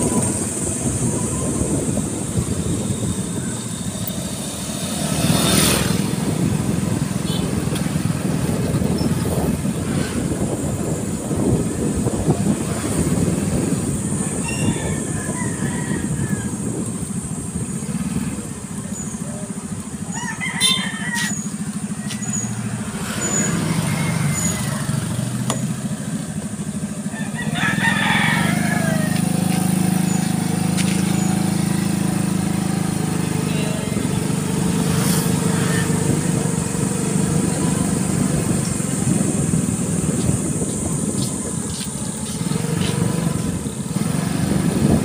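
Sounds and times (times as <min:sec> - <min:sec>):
motorcycle engine running: 0:00.0 - 0:45.0
road and wind noise: 0:00.0 - 0:45.0.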